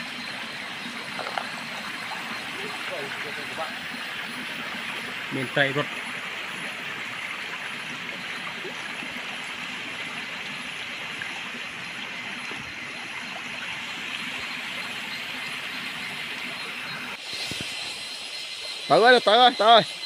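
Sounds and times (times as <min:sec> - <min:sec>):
stream rushing over rocks: 0:00.9 - 0:17.9.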